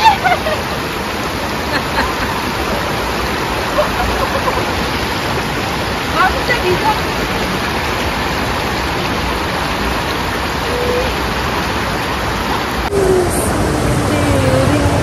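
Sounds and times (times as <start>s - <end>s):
river flowing over rapids: 0.0s - 15.0s.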